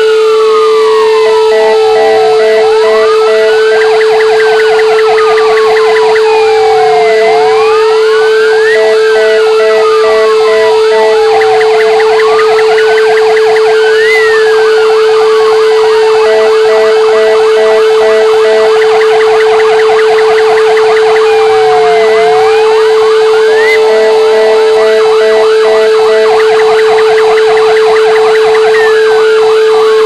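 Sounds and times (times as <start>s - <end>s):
fire engine sirens wailing: 0.0s - 30.0s
steady siren tone: 0.0s - 30.0s.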